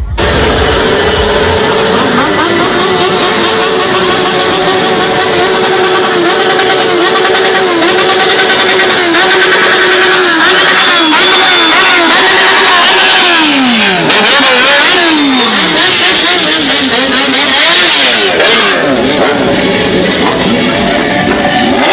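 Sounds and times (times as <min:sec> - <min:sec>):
motorcycle engine revving loudly: 0:00.0 - 0:21.9.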